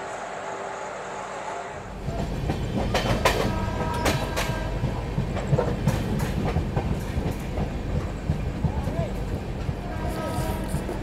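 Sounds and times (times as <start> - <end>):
train wheels rumbling on rails: 0.0 - 11.0
wheels clacking over rail joints: 2.0 - 11.0.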